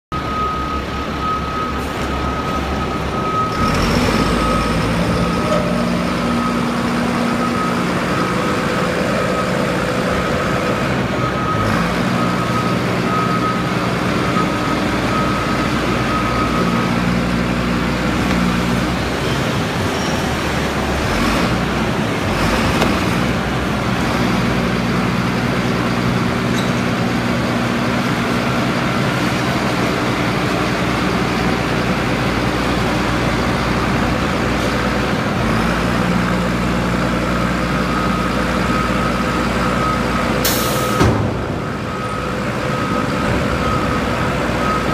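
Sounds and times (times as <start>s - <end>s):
diesel engine running under load: 0.1s - 44.9s.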